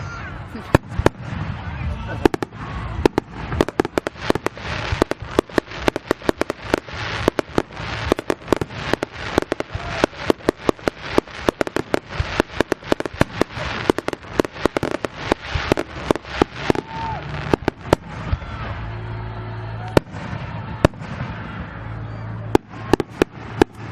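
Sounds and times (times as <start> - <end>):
fireworks bangs: 0.0 - 23.9
fireworks hiss: 0.5 - 18.8, 22.5 - 23.9.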